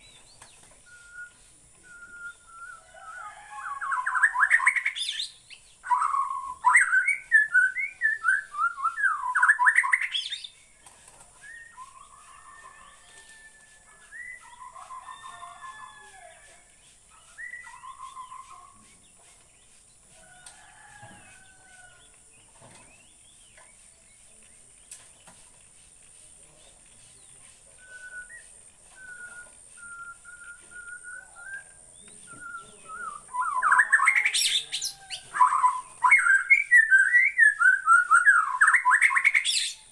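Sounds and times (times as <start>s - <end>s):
songbird singing rapid phrases: 0.0s - 16.0s, 16.7s - 20.8s, 21.4s - 39.9s.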